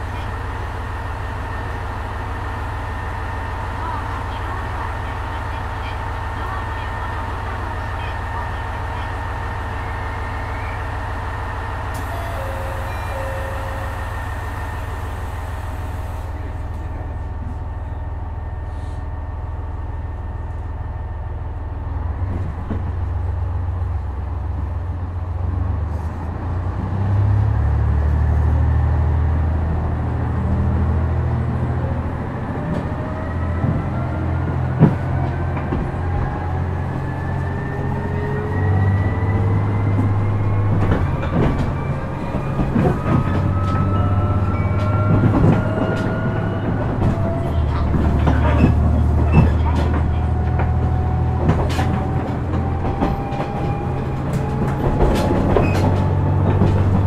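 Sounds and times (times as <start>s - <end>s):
diesel railcar engine humming: 0.0s - 57.0s
rising whine of train: 0.0s - 57.0s.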